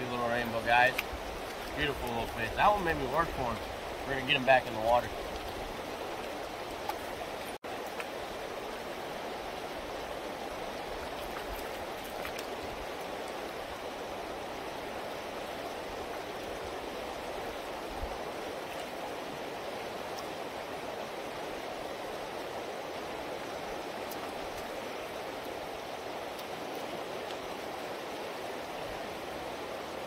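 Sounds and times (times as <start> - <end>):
river water rushing over gravel: 0.0 - 30.0.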